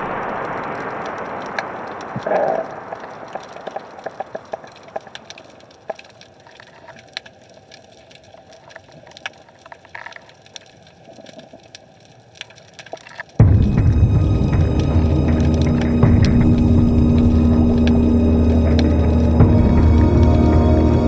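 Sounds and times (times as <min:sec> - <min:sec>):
underwater clicks and crackles: 0:00.0 - 0:13.5, 0:14.8 - 0:19.4
faint hiss: 0:00.0 - 0:21.0.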